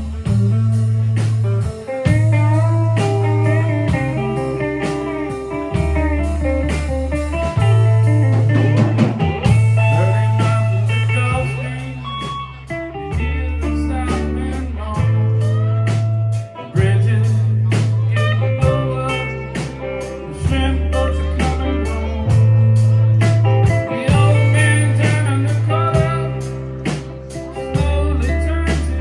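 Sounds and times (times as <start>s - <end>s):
bass notes: 0.0s - 29.0s
drums and cymbals: 0.0s - 29.0s
electric guitar lead bending notes: 0.0s - 29.0s.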